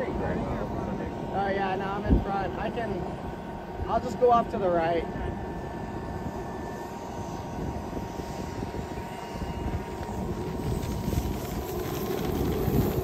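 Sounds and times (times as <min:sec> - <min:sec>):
model plane propeller hum: 0:00.0 - 0:13.0.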